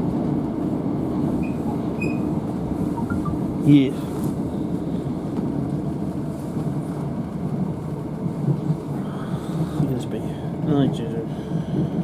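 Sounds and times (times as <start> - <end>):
train carriage running rumble: 0.0 - 12.0.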